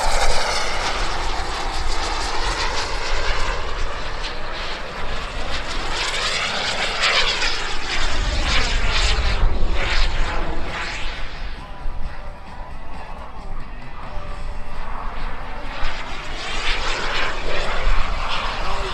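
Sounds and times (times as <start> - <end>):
model jet turbine flying past: 0.0 - 18.9.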